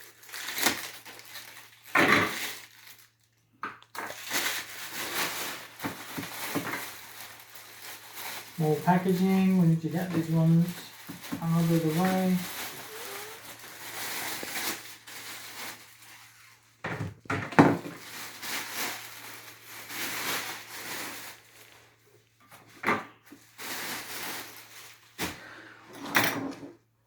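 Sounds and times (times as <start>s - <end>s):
plastic and cardboard rustling: 0.0s - 25.6s.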